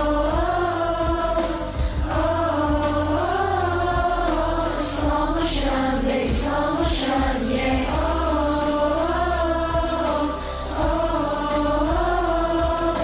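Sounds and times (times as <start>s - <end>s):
slow song with vocals: 0.0s - 13.0s.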